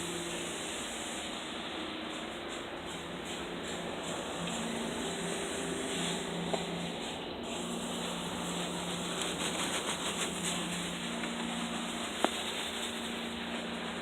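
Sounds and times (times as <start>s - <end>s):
low machine hum: 0.0s - 14.0s
spraying water hiss: 0.0s - 14.0s.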